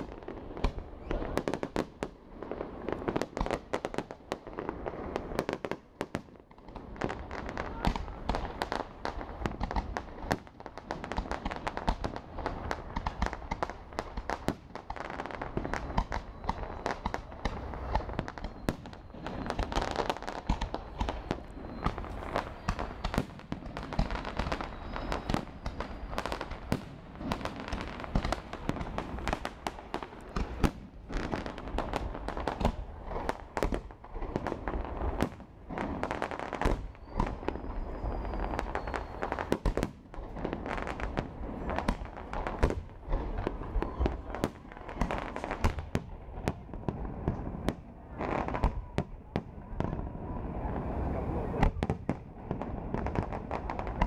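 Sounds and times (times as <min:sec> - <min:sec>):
fireworks bursts and crackling: 0:00.0 - 0:54.0.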